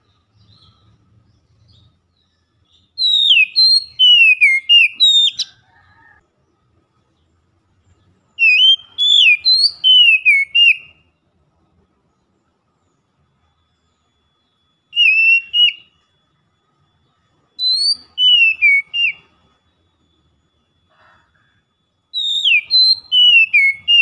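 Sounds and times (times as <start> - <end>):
bird singing whistled notes: 0.0 - 11.3, 11.9 - 21.2, 21.8 - 24.0.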